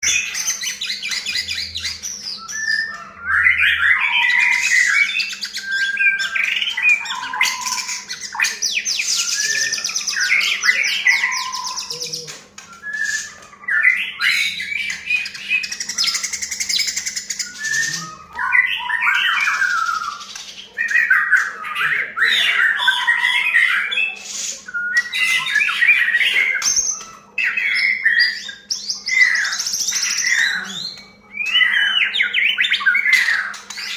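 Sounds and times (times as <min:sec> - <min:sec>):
bird singing whistles and chatter: 0:00.0 - 0:33.9.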